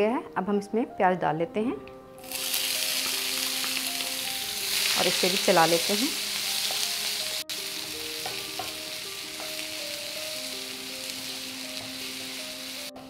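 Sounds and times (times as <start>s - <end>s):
soft background music: 0.0s - 13.0s
onions sizzling in hot oil: 2.2s - 12.9s.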